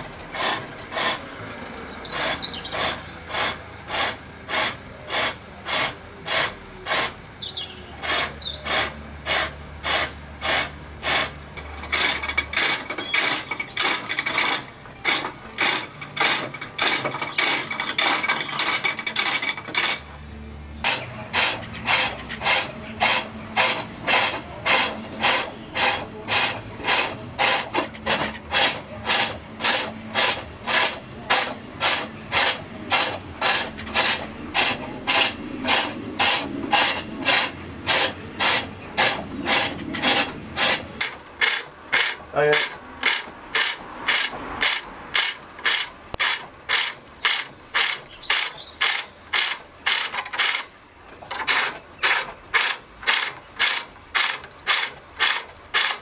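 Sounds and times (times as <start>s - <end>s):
turning tool cutting wooden bowl: 0.0s - 1.4s, 2.1s - 7.2s, 8.0s - 56.0s.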